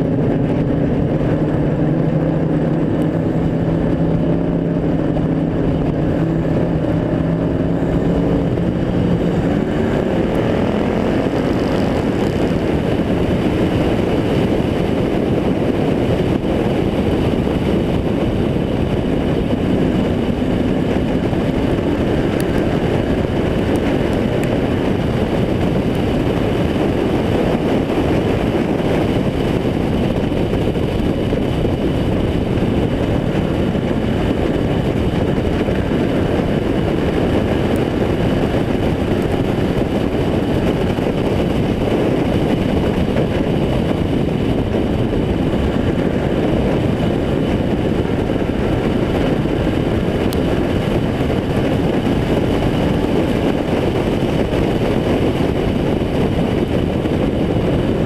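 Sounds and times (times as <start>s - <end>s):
race car engine rumble: 0.0s - 58.0s.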